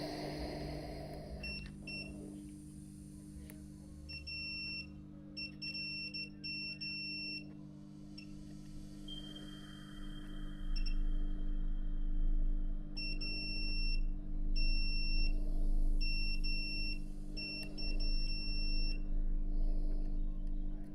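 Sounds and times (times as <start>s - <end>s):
steady low hum: 0.0s - 5.2s, 7.6s - 20.9s.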